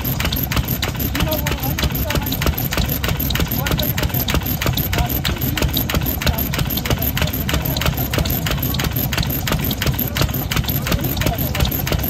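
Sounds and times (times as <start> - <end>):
single-cylinder engine idling: 0.0 - 12.0.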